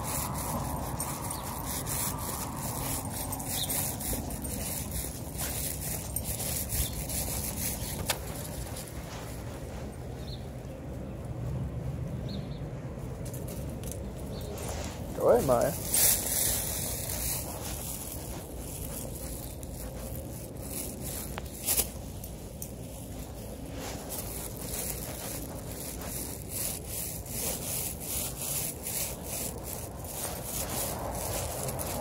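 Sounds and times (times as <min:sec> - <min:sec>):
clothing rubbing on microphone: 0:00.0 - 0:10.4, 0:14.6 - 0:22.2, 0:23.0 - 0:32.0.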